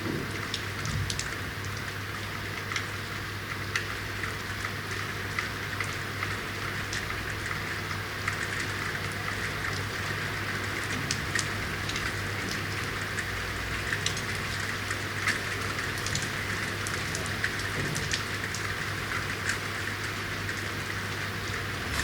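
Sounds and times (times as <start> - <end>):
rain falling on street: 0.0 - 22.0
raindrops ticking on hard surfaces: 0.0 - 22.0.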